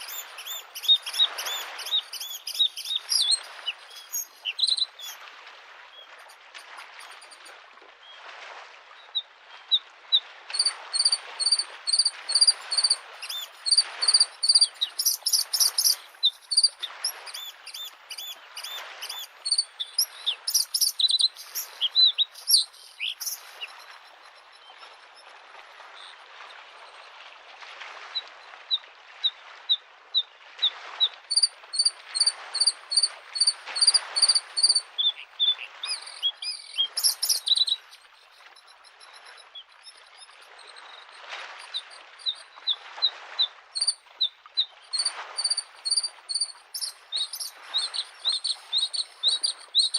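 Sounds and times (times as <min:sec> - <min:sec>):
small waves washing on shore: 0:00.0 - 0:49.9.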